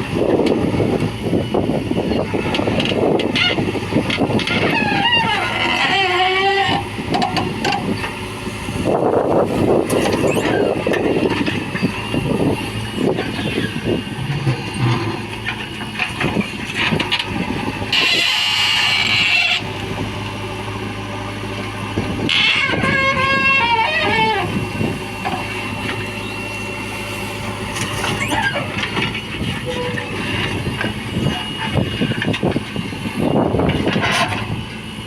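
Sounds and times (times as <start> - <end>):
diesel engine humming: 0.0 - 35.0.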